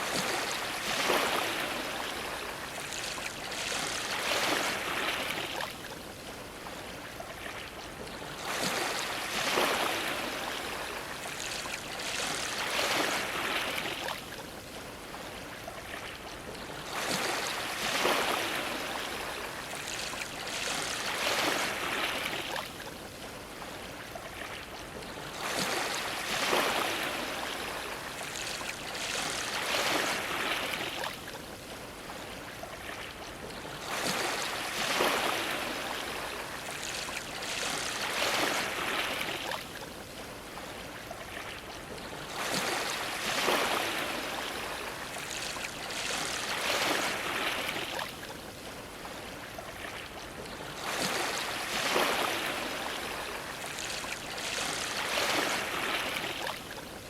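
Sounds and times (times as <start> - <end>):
waves sloshing against a dock: 0.0 - 57.0.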